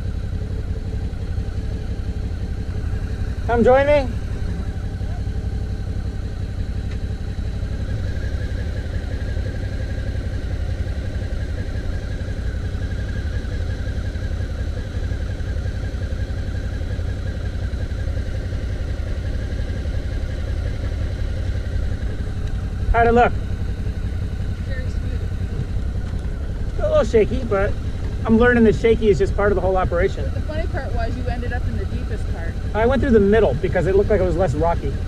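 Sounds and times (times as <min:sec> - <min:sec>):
motorcycle engine idling low: 0:00.0 - 0:35.0.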